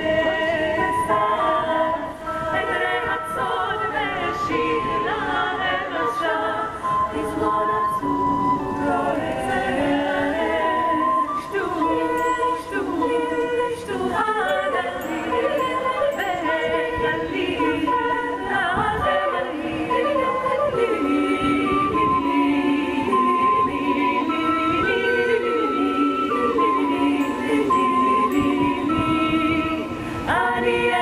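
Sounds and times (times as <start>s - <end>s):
women's choir singing a cappella: 0.0s - 31.0s.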